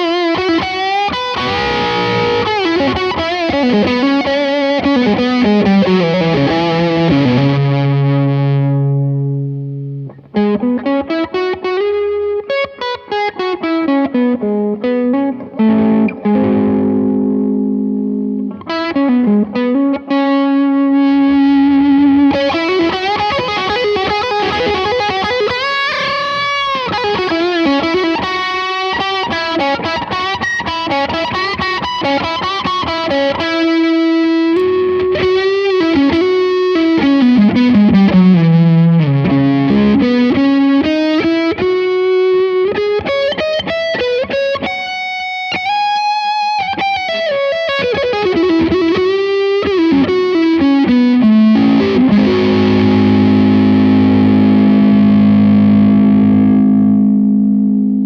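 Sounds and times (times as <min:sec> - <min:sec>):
distorted electric guitar lead: 0:00.0 - 0:58.0.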